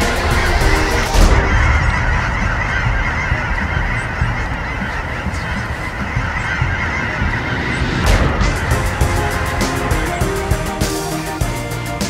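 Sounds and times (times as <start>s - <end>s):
geese honking and cackling: 0.0s - 12.0s.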